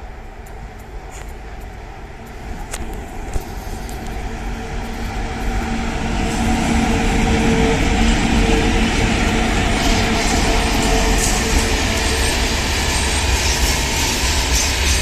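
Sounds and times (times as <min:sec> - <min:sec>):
electric locomotive hum: 0:00.0 - 0:15.0
wheels rumbling on rails: 0:00.0 - 0:15.0.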